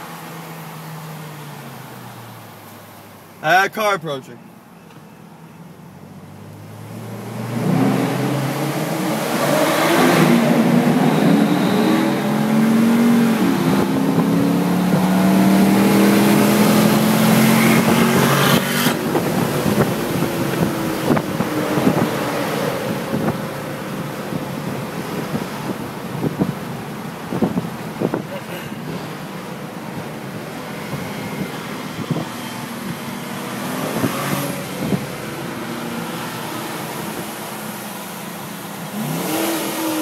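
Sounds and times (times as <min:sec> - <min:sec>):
wind and road noise: 0:00.0 - 0:40.0
car engine at full throttle: 0:05.7 - 0:40.0.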